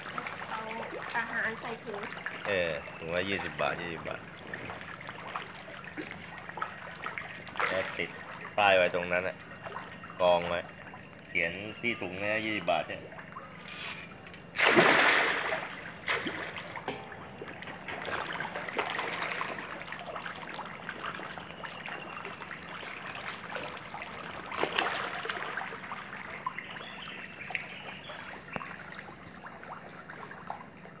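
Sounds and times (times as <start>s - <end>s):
fish splashing in water: 0.0s - 11.3s, 12.6s - 31.0s.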